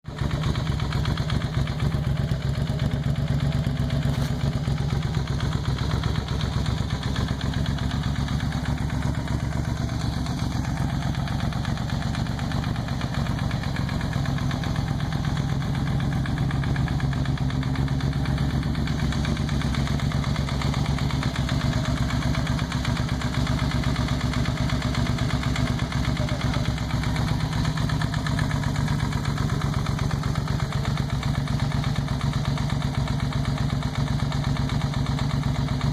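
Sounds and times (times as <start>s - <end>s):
motorcycle engine idling: 0.0s - 35.9s.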